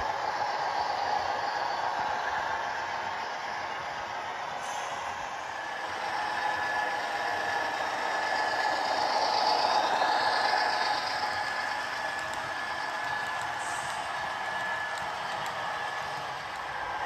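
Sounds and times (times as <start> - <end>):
model train whirring and rattling: 0.0 - 17.0.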